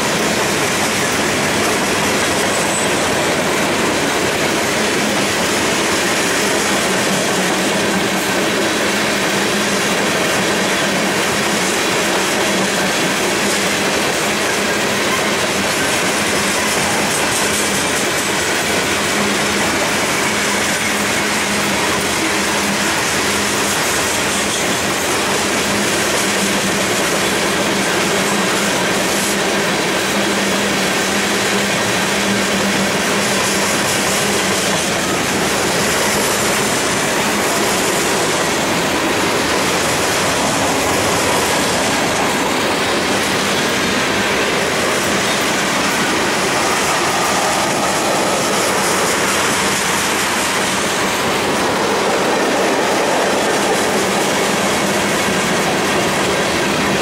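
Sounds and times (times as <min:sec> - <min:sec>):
steel wheels running on rails: 0:00.0 - 0:57.0.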